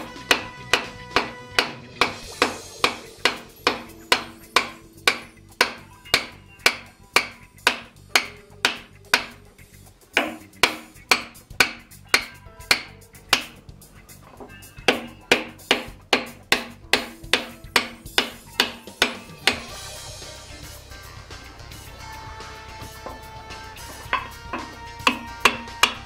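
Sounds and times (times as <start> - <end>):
hammer blows on wooden block: 0.0 - 9.4, 10.2 - 13.6, 14.8 - 19.7, 22.8 - 26.0.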